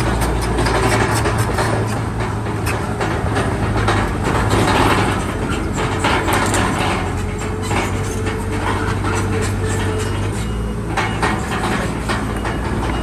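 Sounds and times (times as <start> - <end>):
diesel engine running: 0.0 - 13.0
steel tracks clanking: 0.0 - 13.0.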